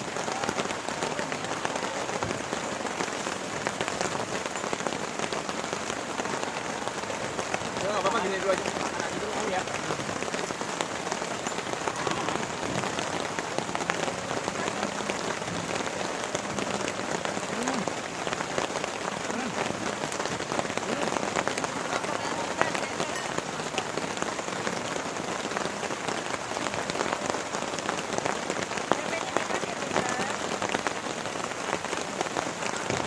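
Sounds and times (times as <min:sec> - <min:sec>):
heavy rain falling: 0:00.0 - 0:33.0
sharp raindrop hits: 0:00.0 - 0:33.0.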